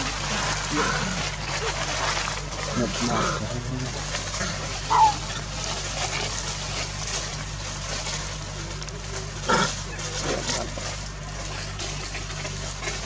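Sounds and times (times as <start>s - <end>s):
macaque calling: 0.0s - 7.4s, 8.0s - 13.0s.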